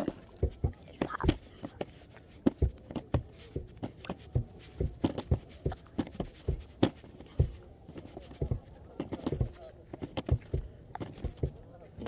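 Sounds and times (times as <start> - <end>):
soft knocks and thumps: 0.0 - 12.0.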